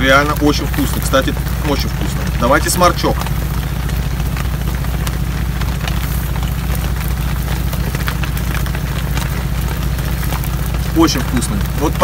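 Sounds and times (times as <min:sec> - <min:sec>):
idling motor hum: 0:00.0 - 0:12.0.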